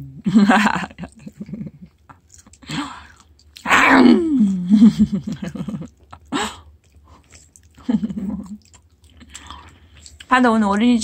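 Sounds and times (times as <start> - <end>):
wet chewing: 0.9 - 11.0.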